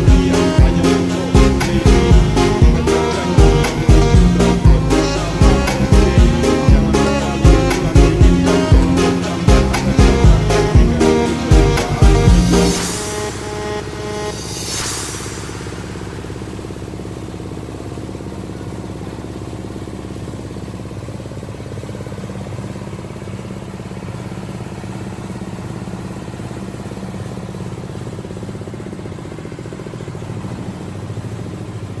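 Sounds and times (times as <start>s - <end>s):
small engine humming: 0.0s - 32.0s.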